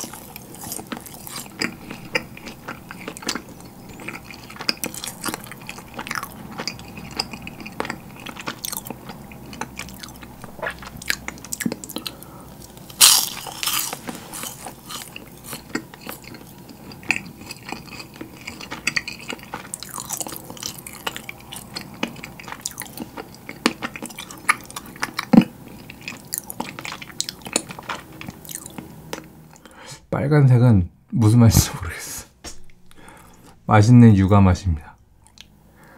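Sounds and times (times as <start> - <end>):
crunchy cracker chewing: 0.0 - 29.7.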